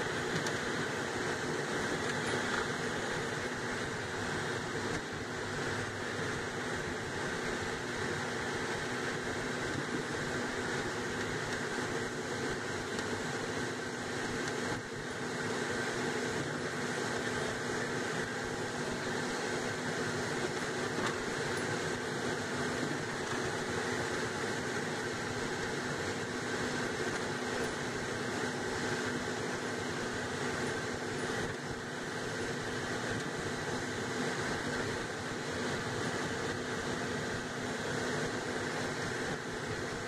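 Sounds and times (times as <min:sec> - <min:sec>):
car road and engine noise: 0:00.0 - 0:40.0
faint constant hum: 0:00.0 - 0:40.0.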